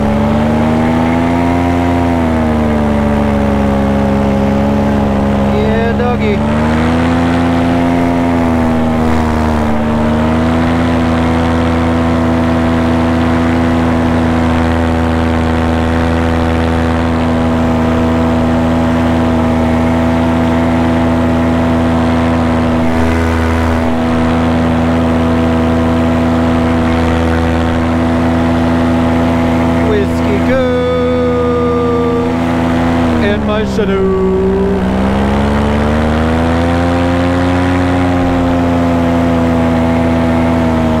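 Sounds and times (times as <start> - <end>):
paramotor engine and propeller: 0.0 - 41.0.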